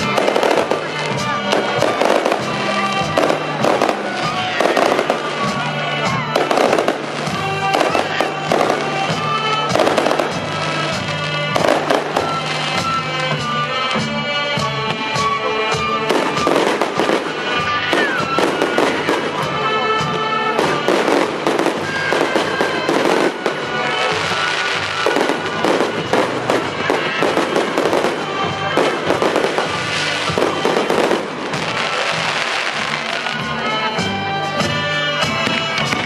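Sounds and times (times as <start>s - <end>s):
fireworks popping and crackling: 0.0s - 36.0s
music playing: 0.0s - 36.0s.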